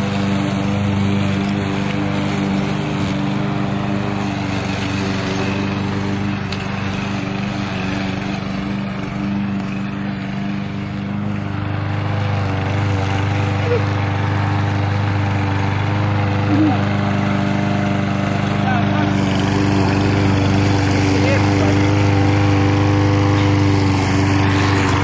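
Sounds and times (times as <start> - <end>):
lawn mower cutting grass: 0.0 - 25.0.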